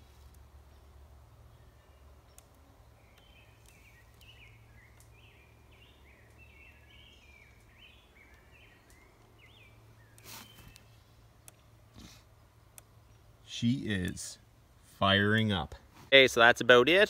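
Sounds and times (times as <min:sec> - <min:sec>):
songbird singing: 0:00.0 - 0:15.7.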